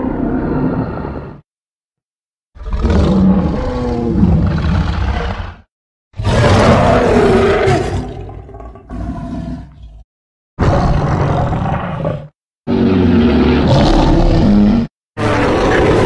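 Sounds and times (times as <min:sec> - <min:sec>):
deep rough creature roars: 0:00.0 - 0:01.4, 0:02.6 - 0:16.0.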